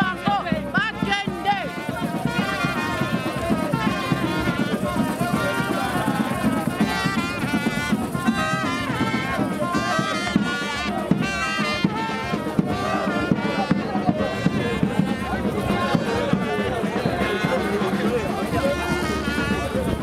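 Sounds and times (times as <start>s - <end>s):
brass band playing: 0.0s - 20.0s.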